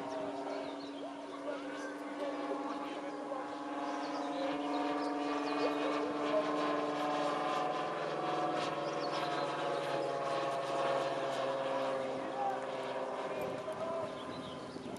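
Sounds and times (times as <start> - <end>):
model airplane engine drone: 0.0 - 14.9.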